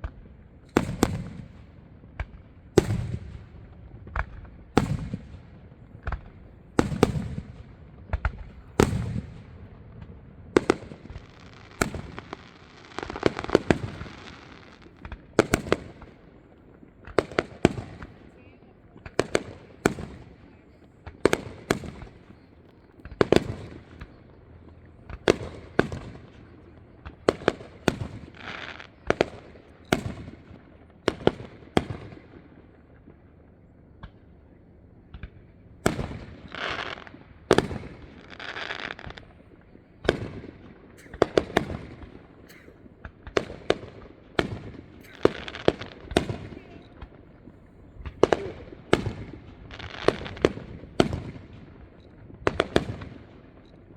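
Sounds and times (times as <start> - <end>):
fireworks booming: 0.0 - 33.2, 35.1 - 53.9
fireworks crackling: 0.0 - 33.2, 35.1 - 53.9.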